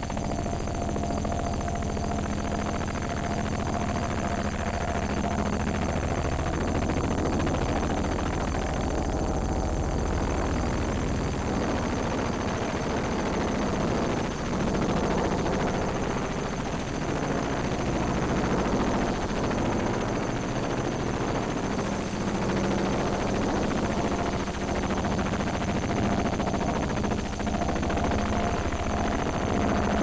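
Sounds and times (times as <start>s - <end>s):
steady high whine: 0.0s - 30.0s.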